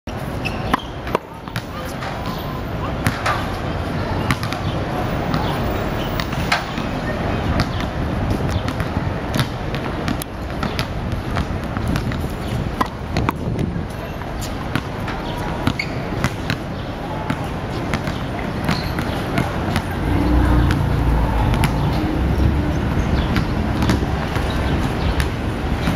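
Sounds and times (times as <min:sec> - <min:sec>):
city noise hum: 0:00.1 - 0:25.9
basketballs bouncing on pavement: 0:00.2 - 0:25.9
voices: 0:00.4 - 0:11.5, 0:12.2 - 0:25.9.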